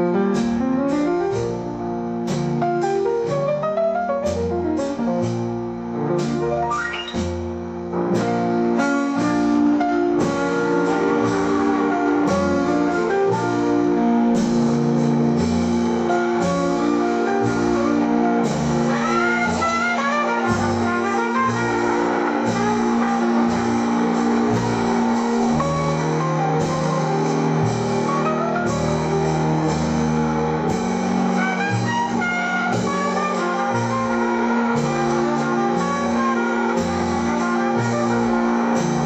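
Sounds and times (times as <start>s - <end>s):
instrumental jazz music: 0.0s - 39.0s.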